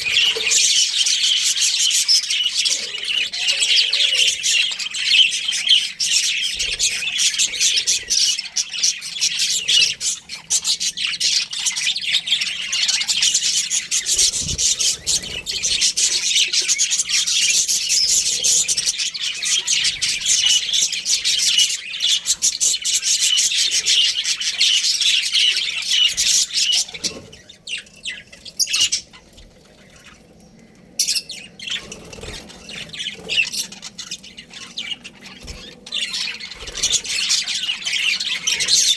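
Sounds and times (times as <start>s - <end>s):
parrots chirping and squawking: 0.0s - 38.9s.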